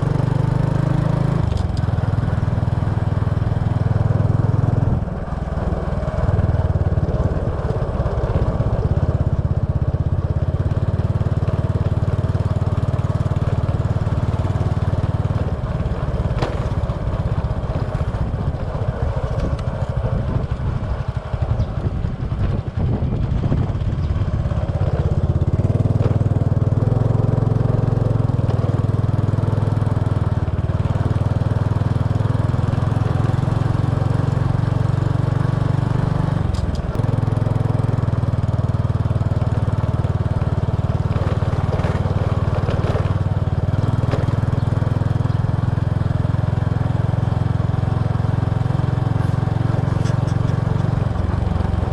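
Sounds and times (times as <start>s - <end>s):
small motorbike engine: 0.0s - 51.9s.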